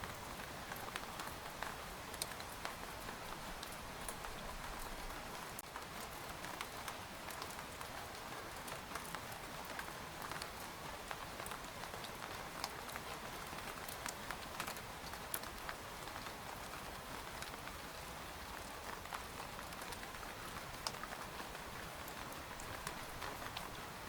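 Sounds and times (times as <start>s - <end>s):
rain pattering on tent fabric: 0.0s - 24.0s.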